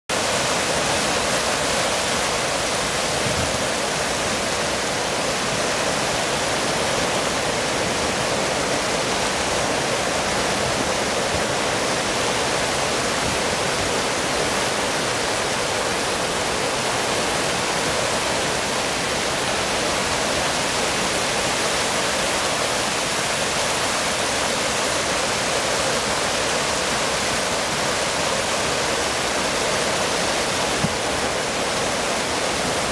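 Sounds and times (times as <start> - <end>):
water rushing over weir: 0.1 - 32.9.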